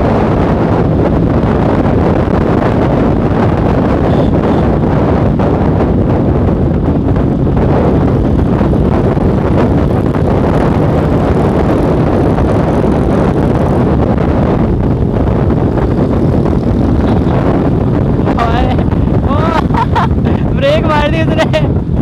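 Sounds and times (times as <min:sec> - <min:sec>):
motorcycle engine running: 0:00.0 - 0:22.0
wind rush on microphone: 0:00.0 - 0:22.0.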